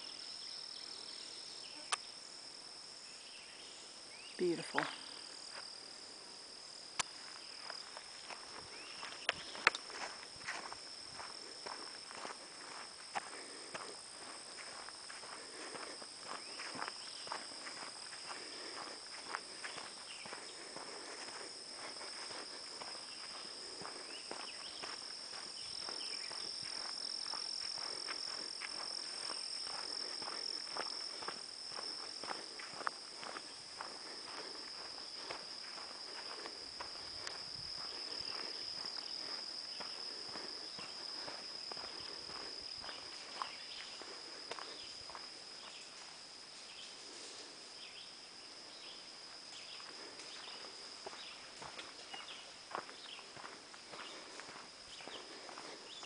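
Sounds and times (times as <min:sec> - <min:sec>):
high-pitched insect drone: 0:00.0 - 0:56.0
footsteps on grassy dirt trail: 0:04.5 - 0:48.1, 0:48.7 - 0:56.0.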